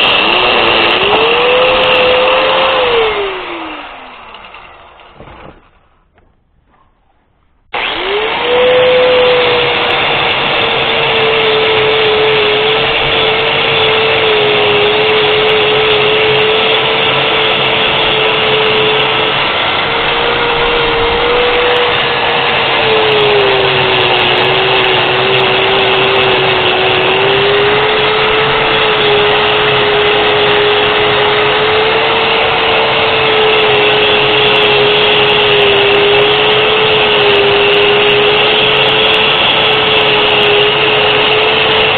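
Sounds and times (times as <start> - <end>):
angle grinder whining: 0.0 - 6.8, 7.5 - 41.9.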